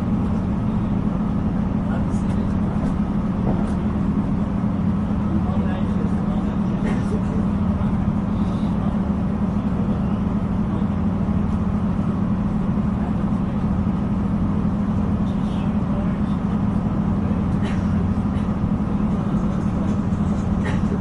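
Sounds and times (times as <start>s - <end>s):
train engine and traction hum: 0.0s - 21.0s
wheel and rail rumble: 0.0s - 21.0s.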